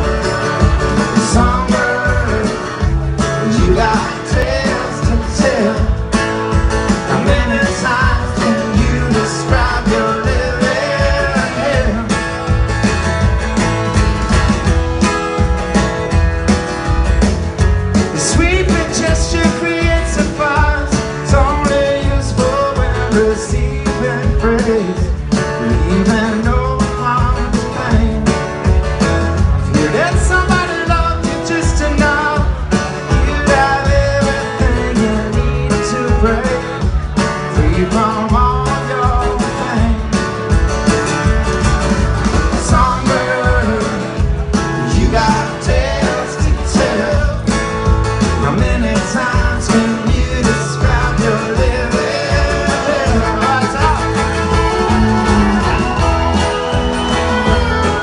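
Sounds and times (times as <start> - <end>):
rock band playing: 0.0 - 58.0
strummed acoustic guitar: 0.0 - 58.0
man singing: 0.9 - 6.2, 6.8 - 12.6, 18.0 - 28.7, 29.6 - 40.4, 42.5 - 58.0.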